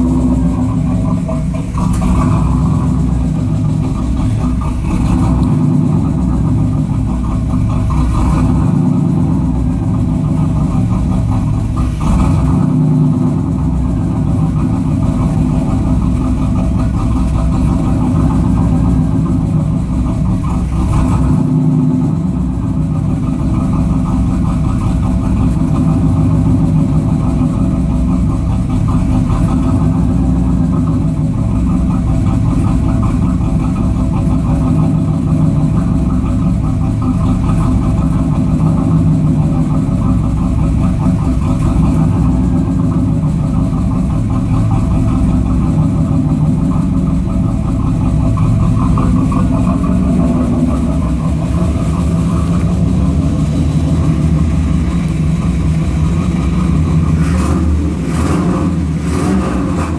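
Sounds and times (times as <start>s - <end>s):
car engine idling rough: 0.0s - 59.9s.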